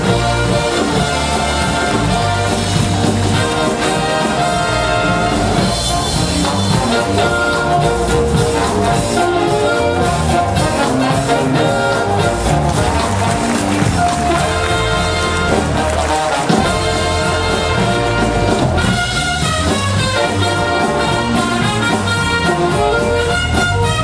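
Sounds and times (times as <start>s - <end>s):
orchestral brass music: 0.0s - 24.0s
percussion accents: 0.0s - 24.0s.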